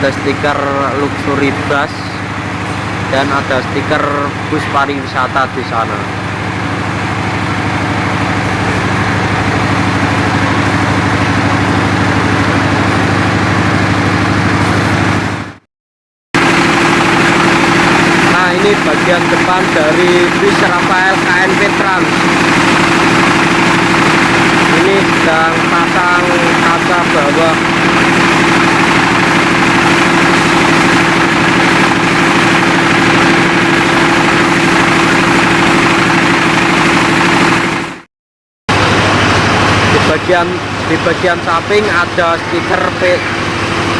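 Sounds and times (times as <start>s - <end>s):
heavy vehicle engine idling: 0.0s - 15.5s, 16.4s - 38.0s, 38.7s - 43.9s.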